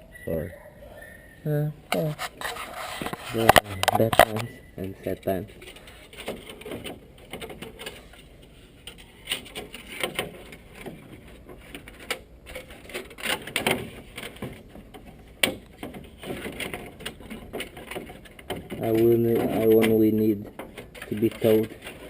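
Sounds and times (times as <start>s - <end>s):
hand tools clicking and scraping: 1.9s - 22.0s.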